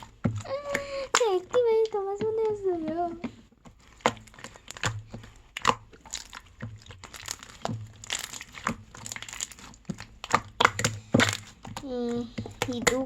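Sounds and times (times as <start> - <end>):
slime squeezed by hand: 0.0 - 13.0.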